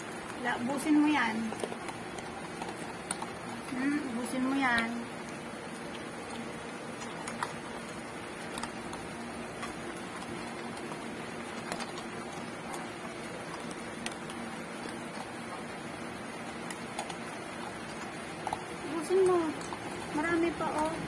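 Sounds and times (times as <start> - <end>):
dog crunching dry kibble: 0.0 - 21.0.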